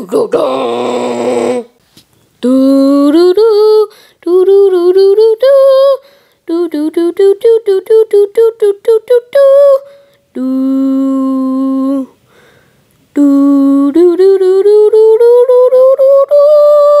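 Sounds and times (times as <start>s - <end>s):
person humming a tune: 0.4s - 1.8s, 2.4s - 12.2s, 13.2s - 17.0s.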